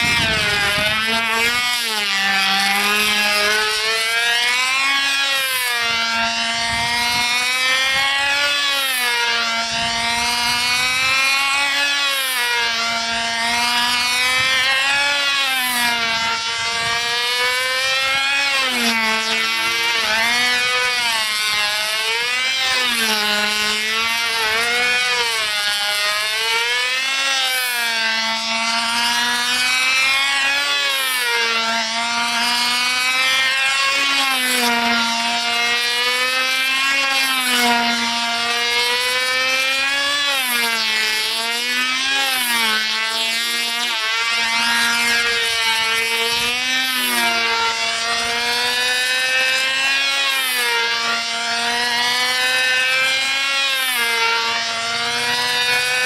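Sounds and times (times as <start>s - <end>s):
model airplane engine flying past: 0.0s - 56.0s.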